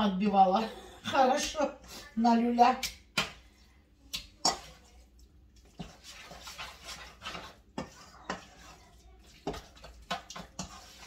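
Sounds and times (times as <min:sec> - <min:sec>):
wet mixing in a bowl: 0:00.0 - 0:11.0.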